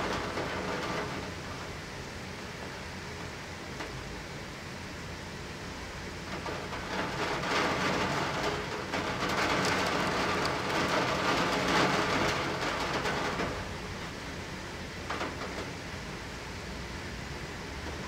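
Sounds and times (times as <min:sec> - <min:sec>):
rain through a window: 0:00.0 - 0:18.0.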